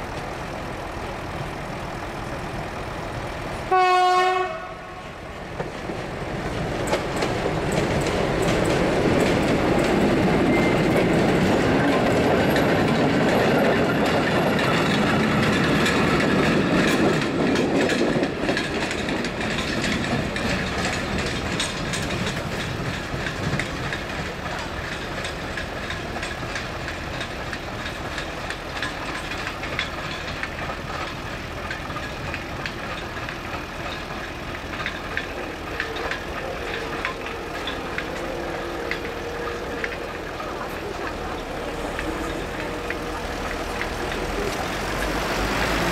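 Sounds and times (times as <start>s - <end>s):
diesel locomotive engine: 0.0s - 45.9s
train wheels clattering: 3.2s - 45.9s.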